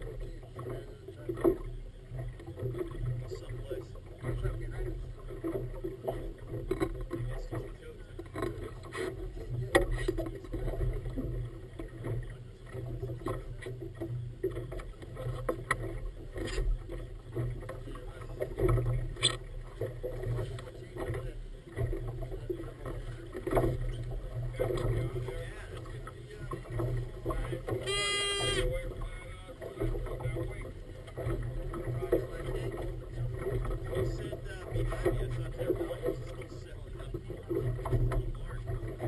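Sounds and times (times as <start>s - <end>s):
water splashing against boat hull: 0.0s - 39.0s.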